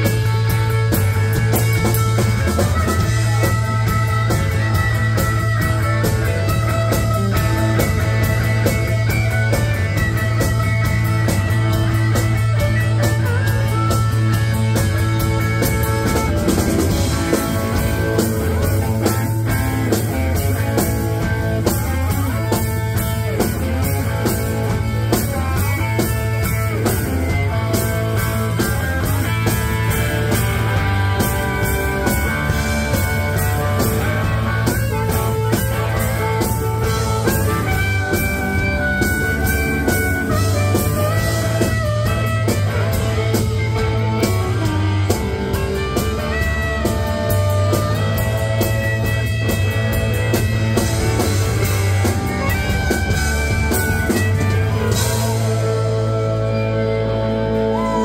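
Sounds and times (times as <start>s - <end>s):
blues-rock band playing: 0.0s - 58.0s
harmonica held notes: 0.0s - 58.0s.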